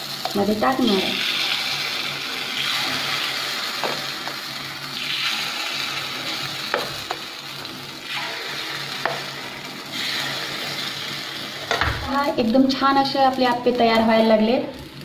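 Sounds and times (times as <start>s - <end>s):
batter sizzling in a hot pan: 0.0s - 15.0s.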